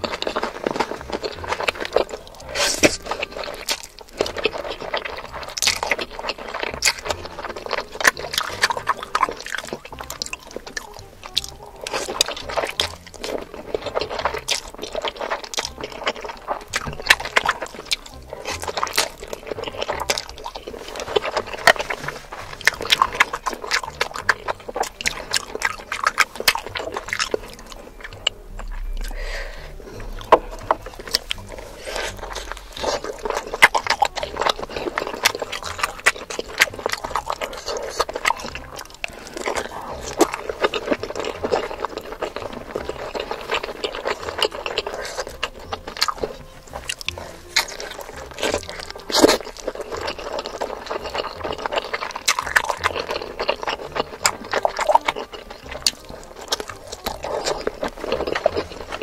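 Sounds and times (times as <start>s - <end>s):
mouth smacks and clicks: 0.0s - 59.0s
slurping and chewing noodles: 0.0s - 59.0s.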